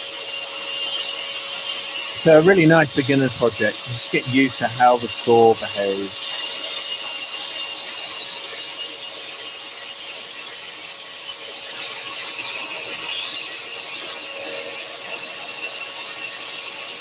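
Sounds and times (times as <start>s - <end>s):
scroll saw cutting wood: 0.0s - 17.0s
thin steady whine: 0.0s - 17.0s.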